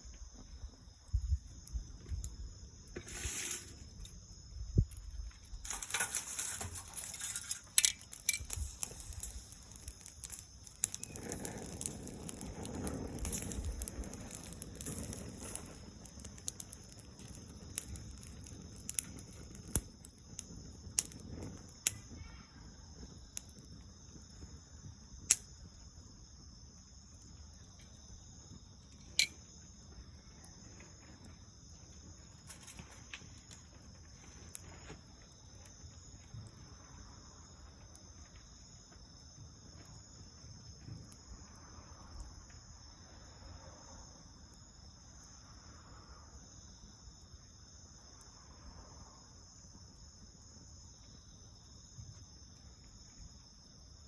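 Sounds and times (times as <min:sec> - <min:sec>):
bonfire crackling and popping: 0:00.0 - 0:54.0
insects droning: 0:00.0 - 0:54.0.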